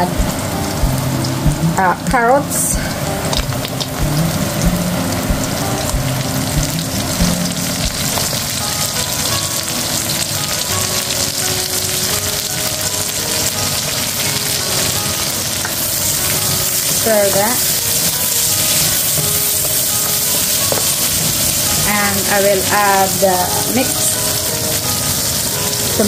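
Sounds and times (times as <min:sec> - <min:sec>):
vegetables sizzling in a frying pan: 0:00.0 - 0:26.0.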